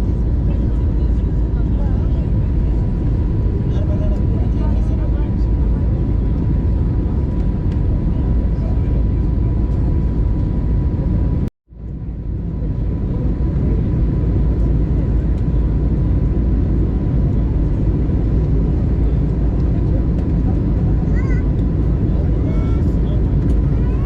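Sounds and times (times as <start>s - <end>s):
airplane cabin engine noise: 0.0s - 24.0s.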